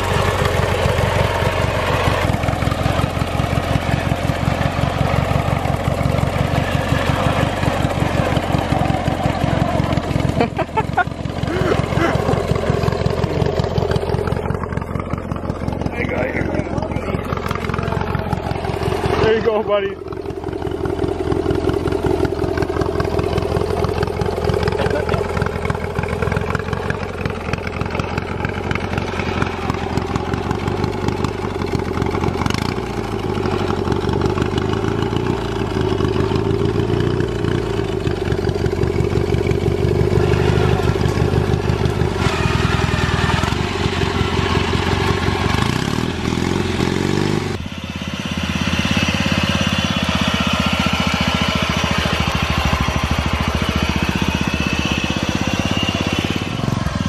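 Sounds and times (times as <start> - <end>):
lawnmower engines running under load: 0.0 - 57.0.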